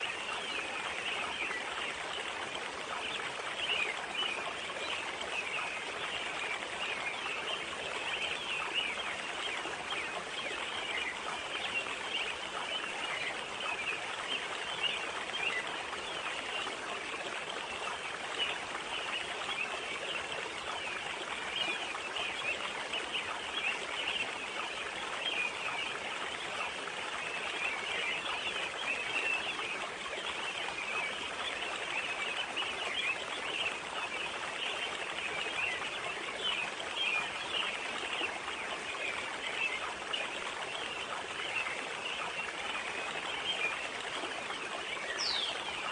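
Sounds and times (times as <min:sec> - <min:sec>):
stream water babbling: 0:00.0 - 0:45.9.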